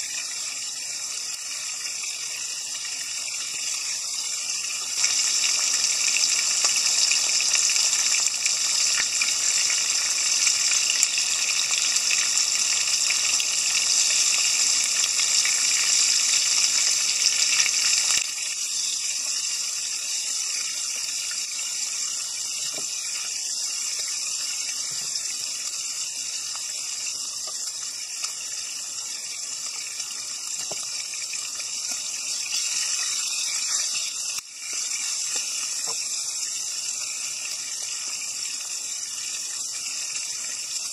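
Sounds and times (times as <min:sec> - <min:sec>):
fish sizzling in a frying pan: 0:00.0 - 0:40.9.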